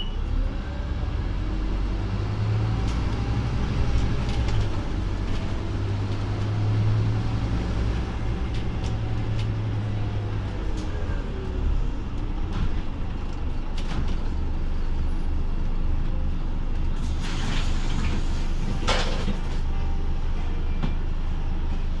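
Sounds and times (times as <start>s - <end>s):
bus engine low rumble: 0.0s - 22.0s.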